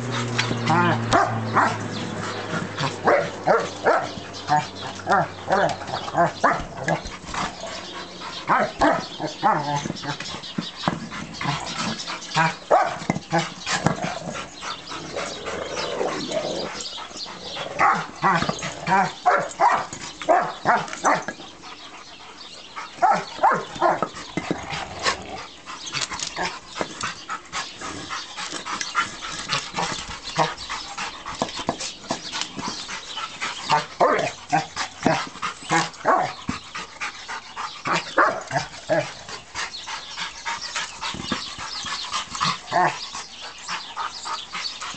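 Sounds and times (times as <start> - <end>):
dogs yipping and barking: 0.0 - 44.9.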